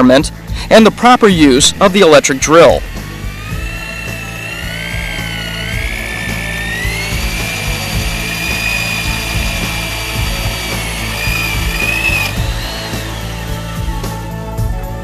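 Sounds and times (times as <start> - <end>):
electric drill motor whine: 0.9 - 15.0.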